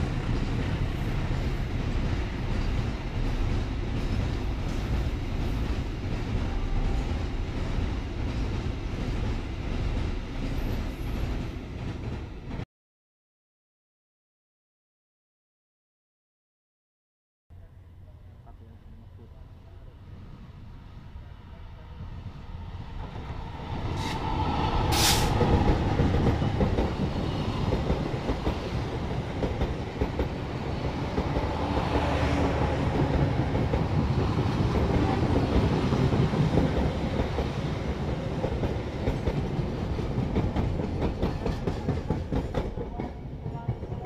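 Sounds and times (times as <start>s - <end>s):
train rumbling past: 0.0s - 12.6s, 17.6s - 44.0s.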